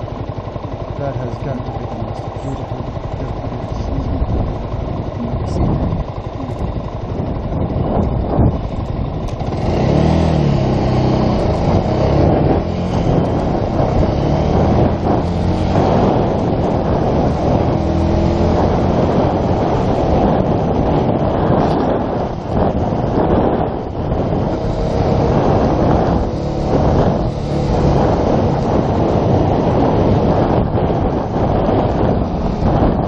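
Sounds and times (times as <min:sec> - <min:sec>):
motorcycle engine revving: 0:00.0 - 0:33.0
road and wind noise: 0:00.0 - 0:33.0.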